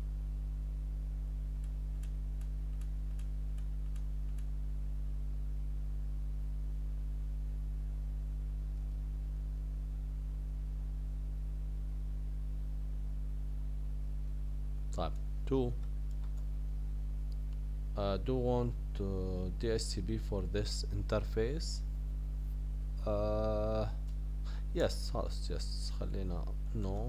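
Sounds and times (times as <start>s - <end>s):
low mains hum: 0.0s - 27.0s.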